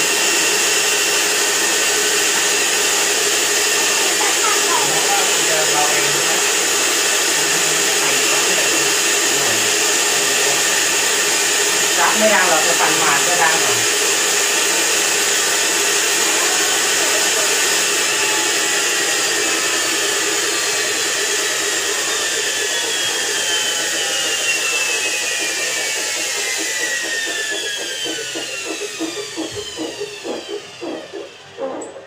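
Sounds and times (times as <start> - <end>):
washing machine motor whirring: 0.0 - 32.0
rhythmic pulsing: 3.5 - 32.0.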